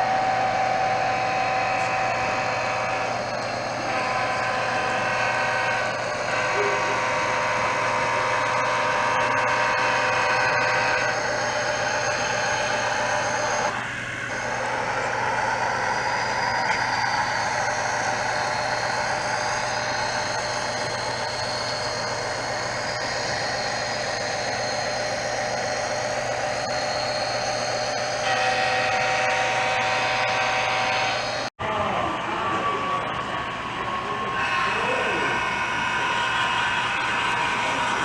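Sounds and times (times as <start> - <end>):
model trains running: 0.0 - 38.0.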